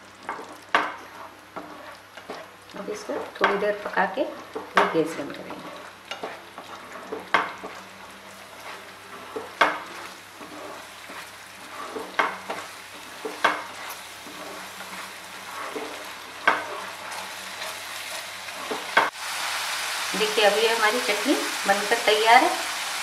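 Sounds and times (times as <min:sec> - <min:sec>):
spatula scraping frying pan: 0:00.2 - 0:19.1
paste sizzling: 0:00.2 - 0:23.0.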